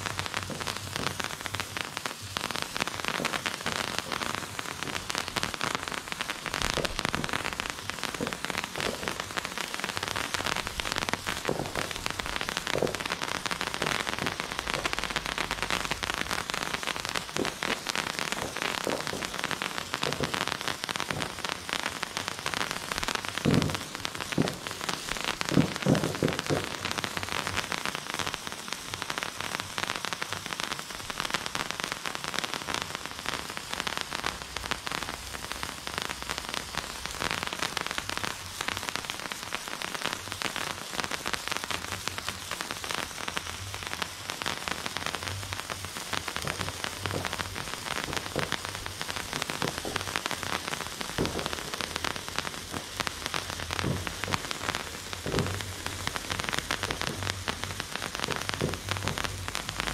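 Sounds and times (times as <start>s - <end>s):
firework sparks hissing and crackling: 0.0s - 59.9s.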